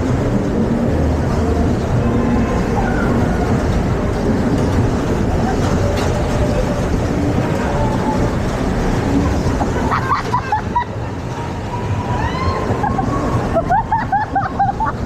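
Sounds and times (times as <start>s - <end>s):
ride car rumbling on track: 0.0s - 15.0s.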